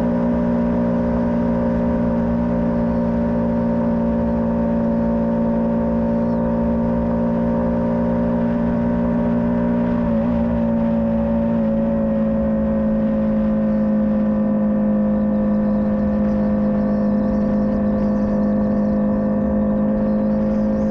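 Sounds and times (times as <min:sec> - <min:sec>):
small motorcycle engine running: 0:00.0 - 0:20.9.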